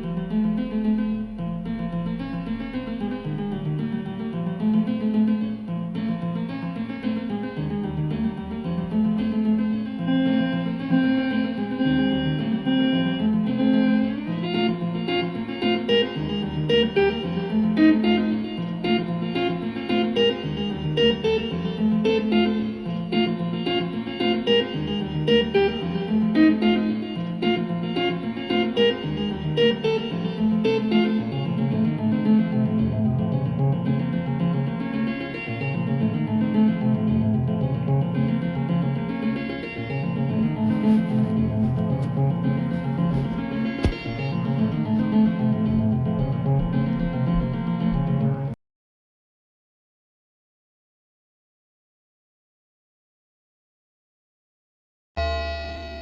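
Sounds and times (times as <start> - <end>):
instrumental background music: 0.0 - 48.5.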